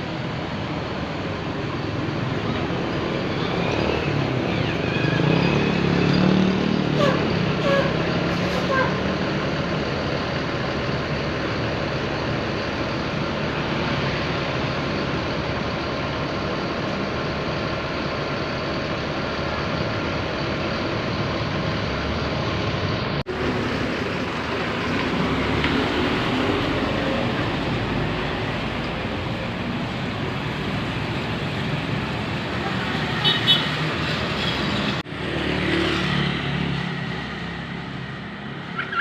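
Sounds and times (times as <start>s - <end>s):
passing traffic noise: 0.0s - 39.0s.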